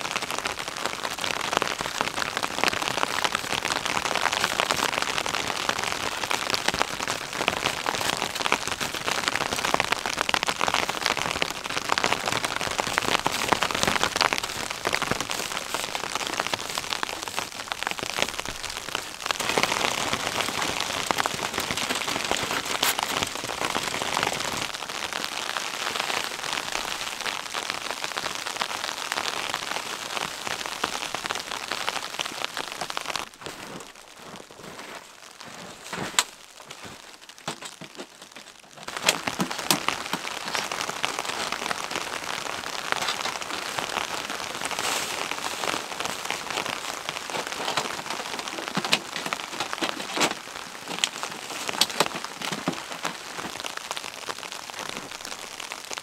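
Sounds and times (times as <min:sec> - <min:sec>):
snow hissing on tent fabric: 0:00.1 - 0:37.3, 0:38.8 - 0:48.7.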